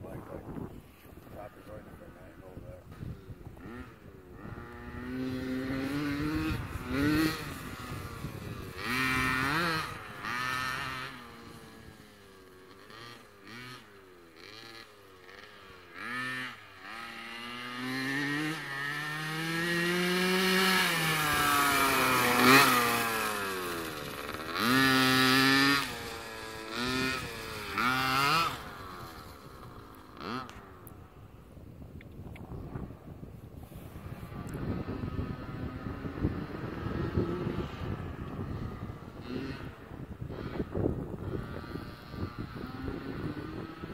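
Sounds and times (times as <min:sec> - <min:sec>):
dirt bike engine revving: 0:00.0 - 0:31.4, 0:33.7 - 0:43.9.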